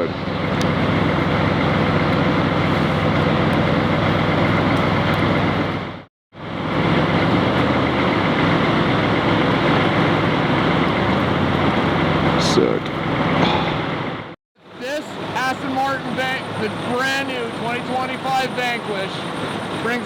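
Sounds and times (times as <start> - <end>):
car engines and traffic noise: 0.0 - 20.0.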